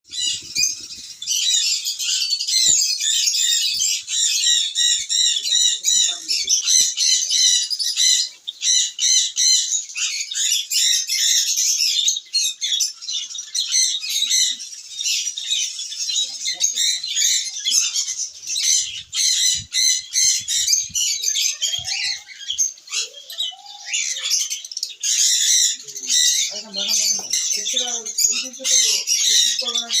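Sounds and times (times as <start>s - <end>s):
conures squawking and chirping: 0.0s - 30.0s.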